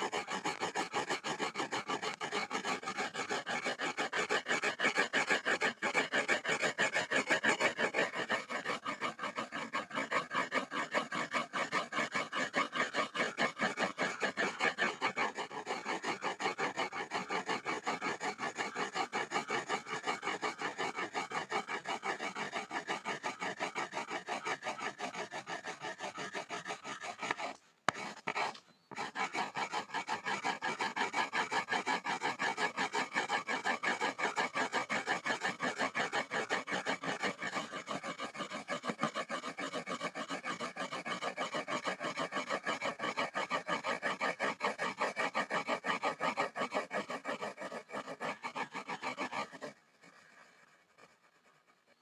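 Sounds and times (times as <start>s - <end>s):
pencil scribbling on wood: 0.0s - 52.0s.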